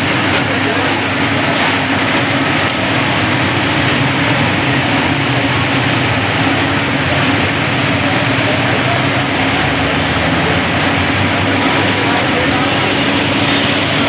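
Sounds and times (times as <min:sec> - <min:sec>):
street noise rush: 0:00.0 - 0:14.0.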